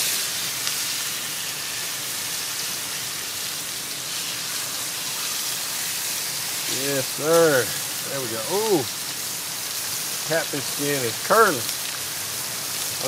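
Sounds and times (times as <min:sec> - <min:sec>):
fish sizzling in a skillet: 0:00.0 - 0:13.0.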